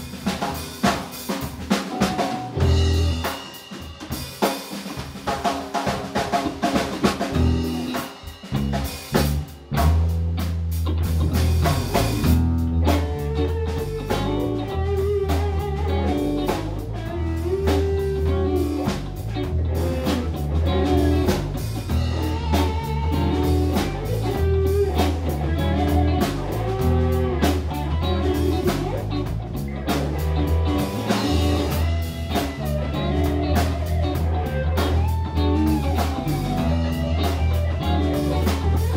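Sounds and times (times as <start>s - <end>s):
drum kit: 0.0s - 38.9s
live rock band playing: 0.0s - 38.9s.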